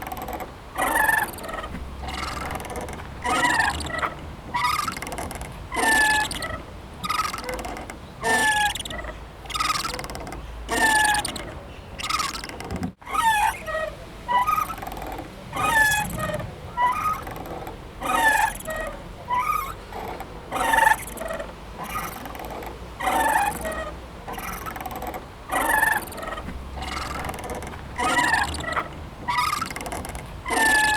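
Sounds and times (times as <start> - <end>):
playground swing squeaking: 0.0 - 30.9.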